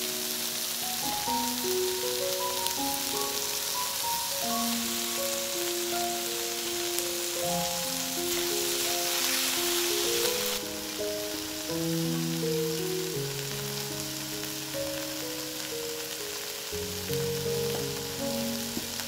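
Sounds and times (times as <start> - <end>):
prawns sizzling in oil: 0.0 - 19.0
soft background music: 0.0 - 19.0.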